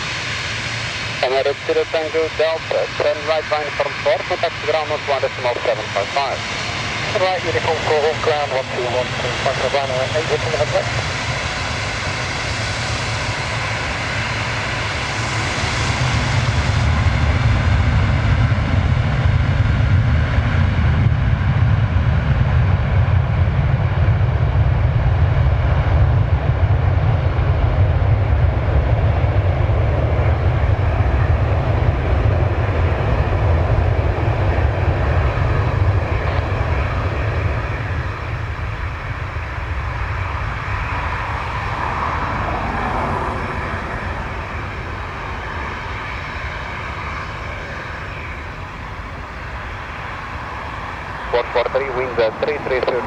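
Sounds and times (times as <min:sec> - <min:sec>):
jet engines at takeoff rumbling: 0:00.0 - 0:53.0.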